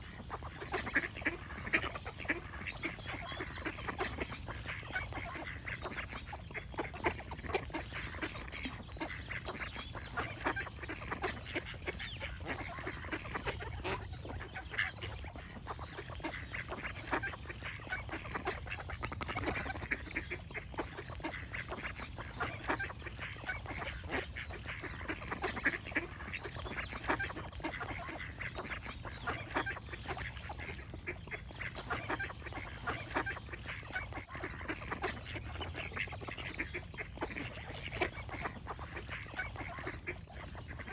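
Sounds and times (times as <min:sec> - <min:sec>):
ducks quacking: 0:00.0 - 0:40.9.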